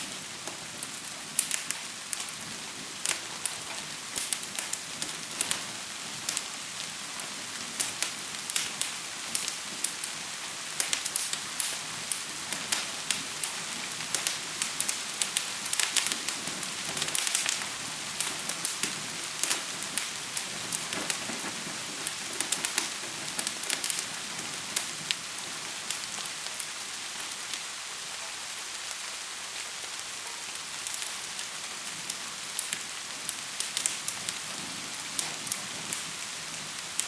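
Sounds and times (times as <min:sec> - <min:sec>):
gentle rain hiss: 0:00.0 - 0:37.0
wood fire crackling: 0:00.0 - 0:37.0.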